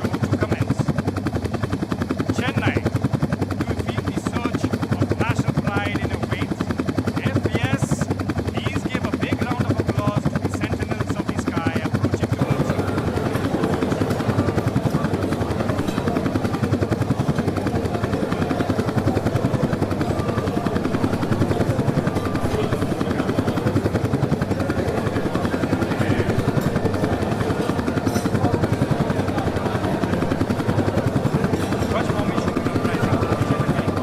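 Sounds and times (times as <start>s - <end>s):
helicopter rotors chopping: 0.0s - 34.0s.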